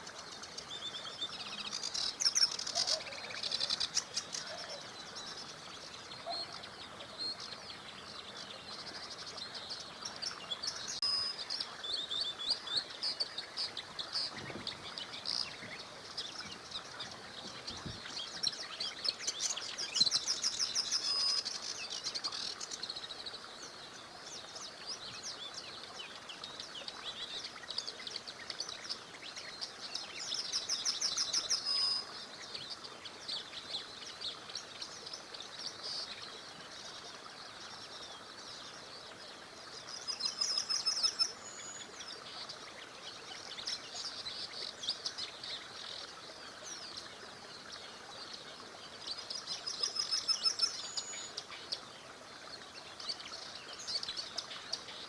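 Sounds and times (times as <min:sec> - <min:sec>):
faint running water: 0:00.0 - 0:55.0
songbirds singing and trilling: 0:00.0 - 0:55.0.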